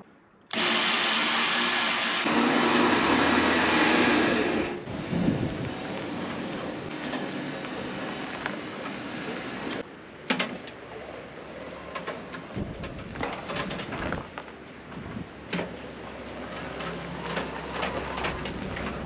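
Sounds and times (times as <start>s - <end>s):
tow tug mechanical rumble: 1.9s - 9.9s, 11.0s - 19.0s.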